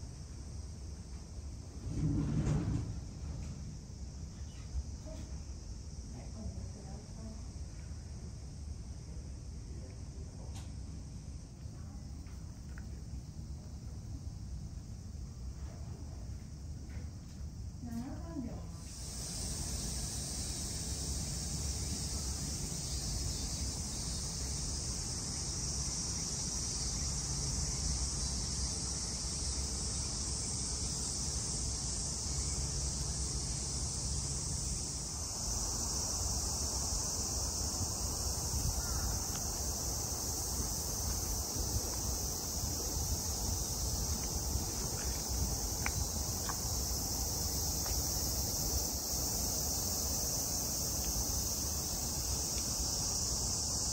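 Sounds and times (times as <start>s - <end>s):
cicadas buzzing: 0.0s - 1.9s, 2.6s - 53.9s.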